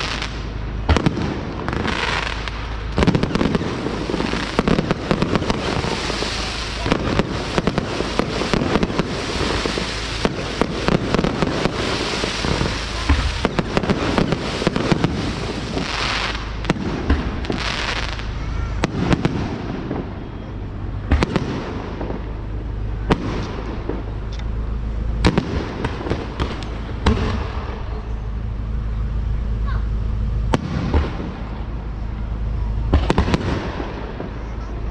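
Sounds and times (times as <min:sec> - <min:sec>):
fireworks crackling and banging: 0:00.0 - 0:34.9.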